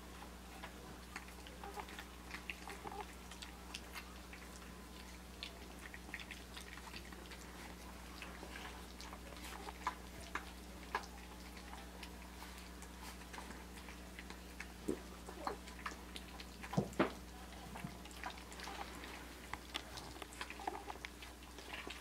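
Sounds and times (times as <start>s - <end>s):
puppies chewing food: 0.0s - 22.0s.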